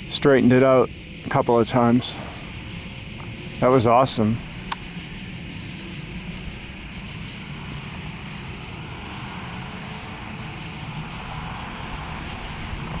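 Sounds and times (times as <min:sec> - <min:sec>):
crickets chirping: 0:00.0 - 0:13.0
steady low rumble: 0:00.0 - 0:13.0.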